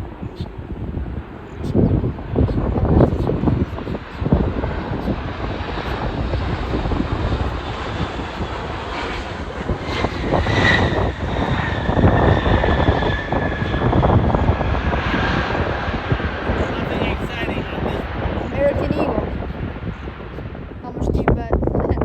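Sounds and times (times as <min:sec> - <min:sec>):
airliner engines rumbling: 0:00.0 - 0:22.0
jet engine high whine: 0:00.0 - 0:22.0.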